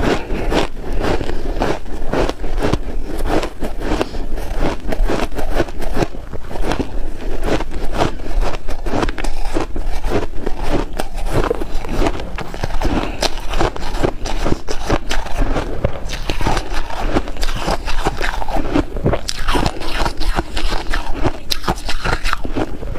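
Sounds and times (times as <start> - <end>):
ice being chewed: 0.0 - 22.9.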